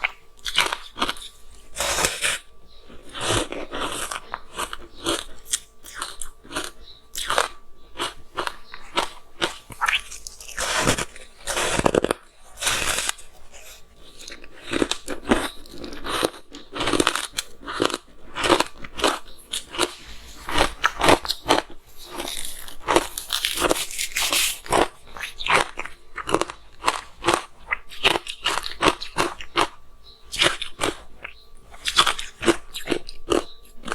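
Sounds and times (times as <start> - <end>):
crunching and chewing ice: 0.0 - 33.9.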